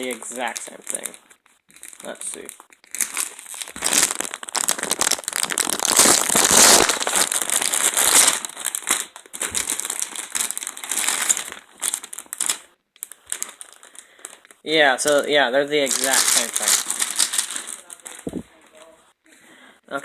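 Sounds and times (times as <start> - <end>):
packaging crinkling: 0.0 - 18.9.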